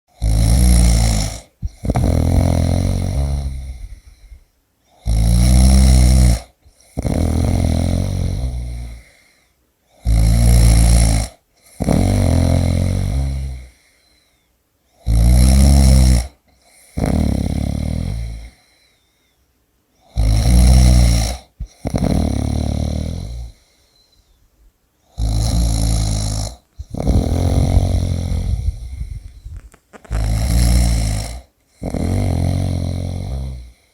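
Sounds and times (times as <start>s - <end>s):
person snoring: 0.1s - 14.1s, 15.0s - 18.8s, 20.0s - 24.1s, 25.1s - 33.9s.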